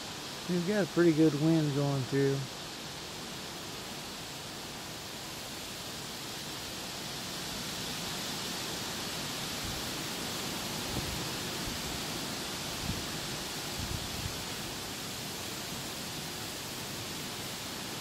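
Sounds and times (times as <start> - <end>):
storm wind rushing through trees: 0.0 - 18.0.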